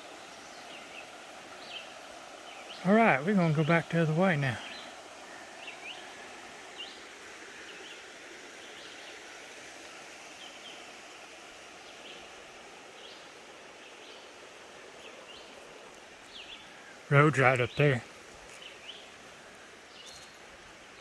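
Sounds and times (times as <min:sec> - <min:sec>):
steady forest hiss: 0:00.0 - 0:21.0.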